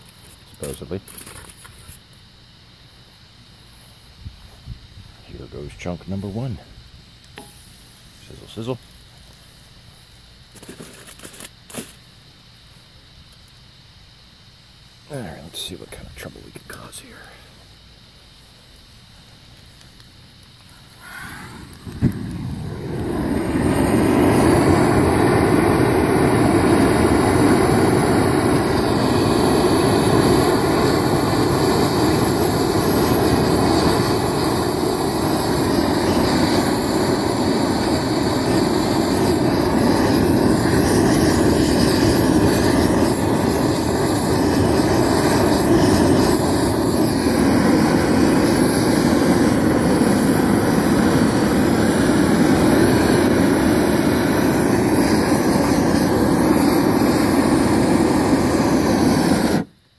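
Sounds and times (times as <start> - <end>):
propane torch flame rushing: 7.2 - 12.1, 15.1 - 59.8.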